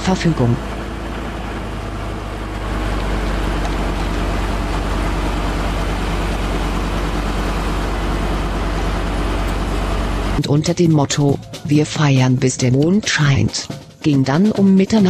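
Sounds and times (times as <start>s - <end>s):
engine drone: 0.0s - 12.6s.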